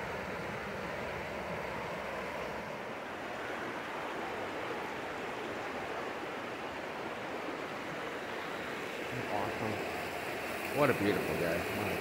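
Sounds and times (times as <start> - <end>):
river rushing over boulders: 0.0 - 12.0.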